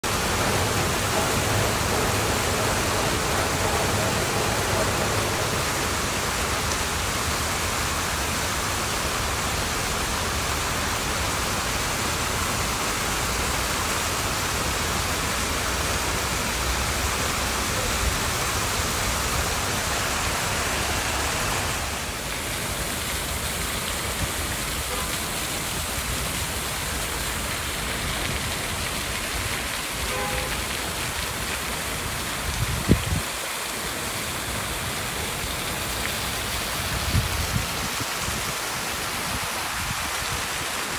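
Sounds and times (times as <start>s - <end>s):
fountain splashing into pool: 0.0s - 40.9s.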